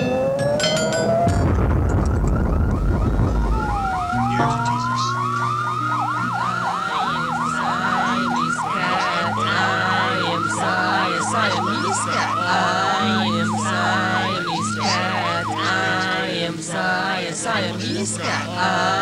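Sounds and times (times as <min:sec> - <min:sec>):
low sustained synthesizer notes: 0:00.0 - 0:19.0
siren-like sweeping synth tone: 0:00.0 - 0:19.0.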